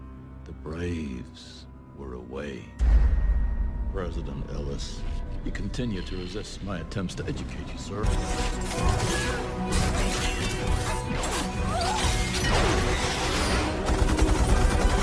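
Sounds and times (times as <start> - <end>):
dramatic orchestral score: 0.6 - 15.0.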